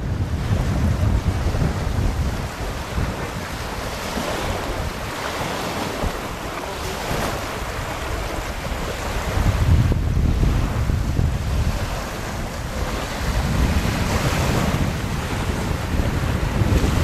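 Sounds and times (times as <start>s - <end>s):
small waves washing on sand: 0.0s - 17.0s
wind buffeting microphone: 0.0s - 17.0s.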